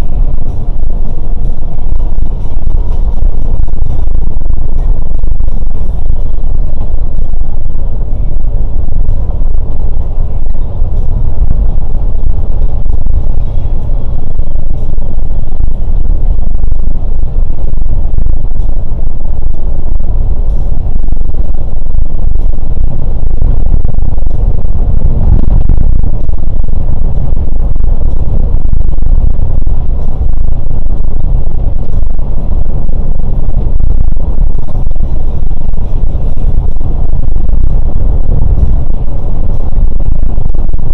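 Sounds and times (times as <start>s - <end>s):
coach engine and road rumble: 0.0s - 40.9s.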